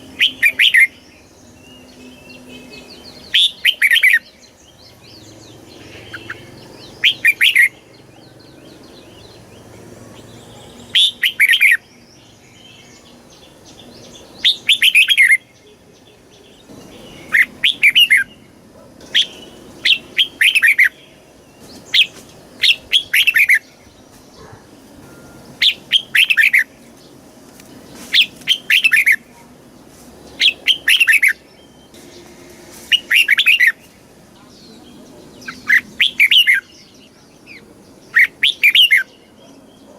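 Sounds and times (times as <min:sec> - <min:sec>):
bird singing whistled notes: 0:00.0 - 0:26.8, 0:28.0 - 0:29.3, 0:30.3 - 0:39.9.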